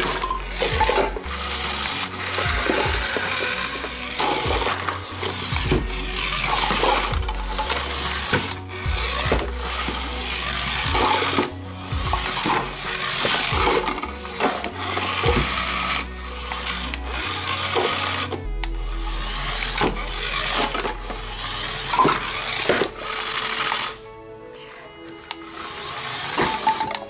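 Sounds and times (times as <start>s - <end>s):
background music with bass: 0.0s - 27.0s
toy car motor whirring: 0.0s - 27.0s.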